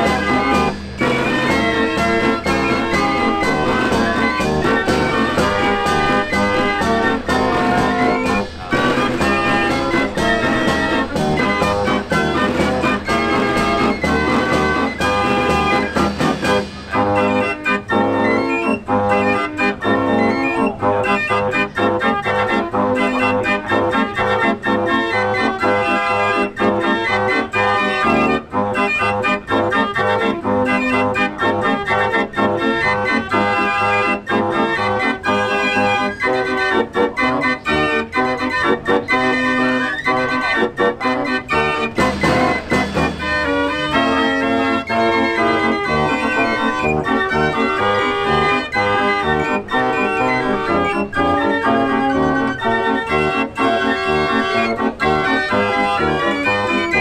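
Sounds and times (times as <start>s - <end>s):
fair organ playing a tune: 0.0s - 57.0s.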